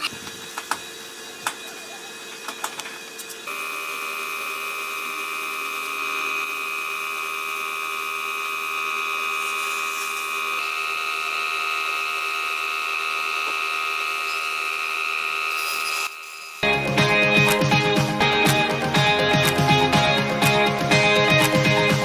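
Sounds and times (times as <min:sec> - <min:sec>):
electric motor whining: 0:00.0 - 0:22.0.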